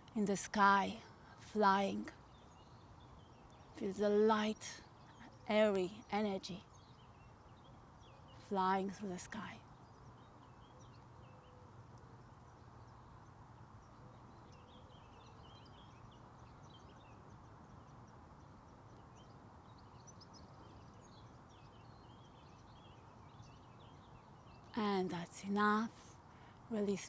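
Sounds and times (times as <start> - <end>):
distant birds chirping: 0.0 - 27.0.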